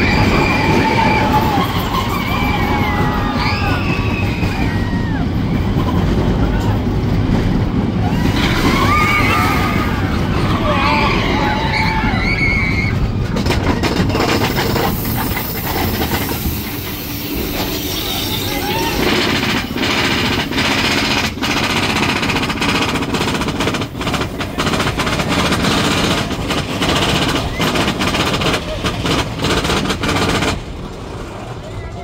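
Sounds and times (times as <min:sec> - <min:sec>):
roller coaster rattling on track: 0:00.0 - 0:32.0.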